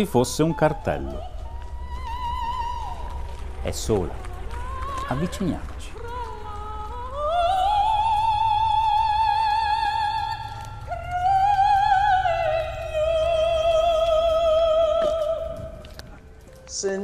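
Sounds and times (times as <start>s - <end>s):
woman singing opera: 0.0s - 16.0s.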